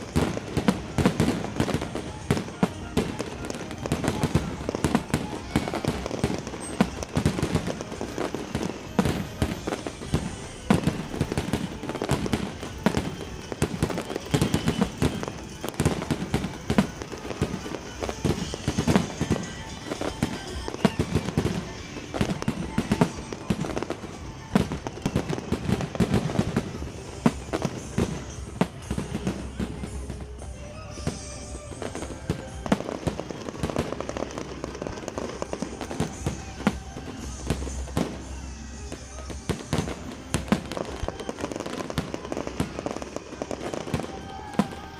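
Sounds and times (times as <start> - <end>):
fireworks bangs and crackles: 0.0 - 44.9
music playing: 0.0 - 44.9.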